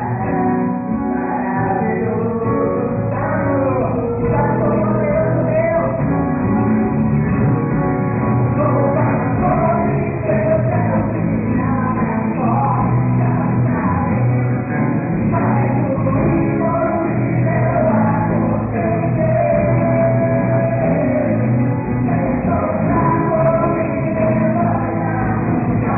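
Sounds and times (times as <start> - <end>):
live rock band playing: 0.0 - 25.9
person singing: 0.0 - 25.9.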